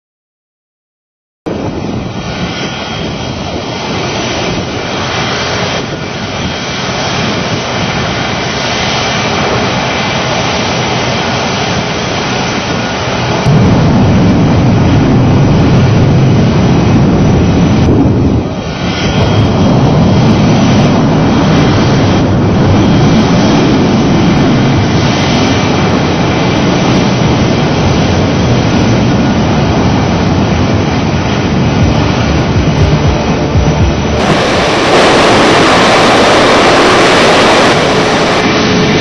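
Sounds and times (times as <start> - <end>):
jet aircraft passing close: 1.5 - 39.0.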